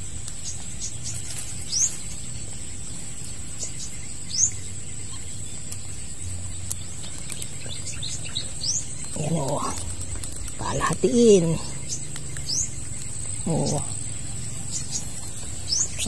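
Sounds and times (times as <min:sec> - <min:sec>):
low outdoor rumble: 0:00.0 - 0:16.0
small bird chirping: 0:00.0 - 0:16.0
steady high-pitched hum: 0:00.0 - 0:16.0.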